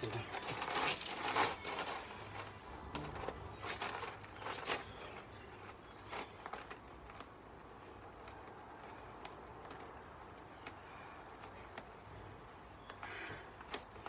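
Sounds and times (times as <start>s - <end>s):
faint rustling on gravel: 0.0s - 14.0s.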